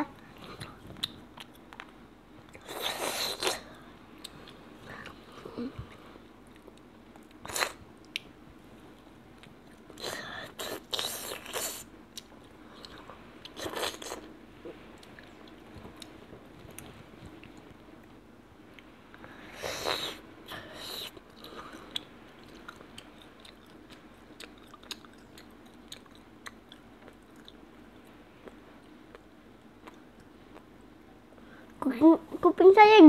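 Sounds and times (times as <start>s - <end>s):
child chewing food: 0.0s - 31.8s.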